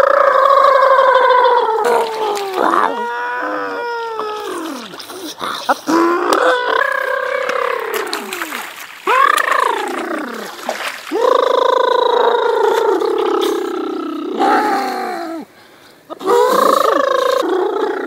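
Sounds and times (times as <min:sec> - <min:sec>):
men imitating animal calls: 0:00.0 - 0:15.5, 0:16.1 - 0:18.0.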